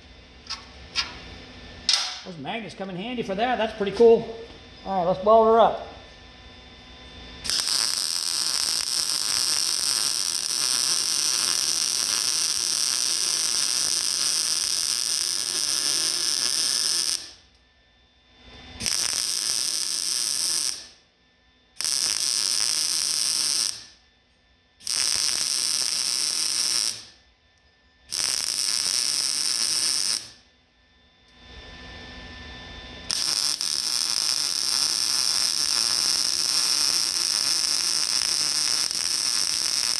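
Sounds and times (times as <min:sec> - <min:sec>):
welder arc crackling and buzzing: 0:00.0 - 0:39.9.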